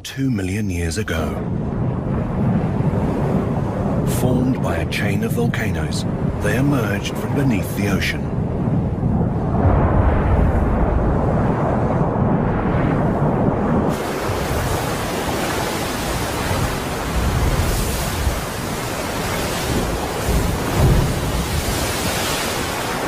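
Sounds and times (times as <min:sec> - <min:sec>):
churning water and steam rushing: 0:00.4 - 0:23.0
low rumble: 0:00.8 - 0:22.8.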